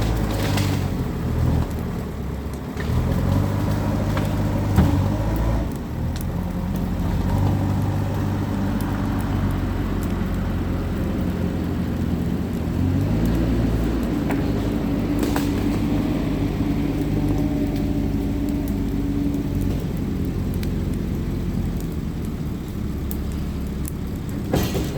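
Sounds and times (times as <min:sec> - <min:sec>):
bonfire crackling and popping: 0:00.0 - 0:24.9.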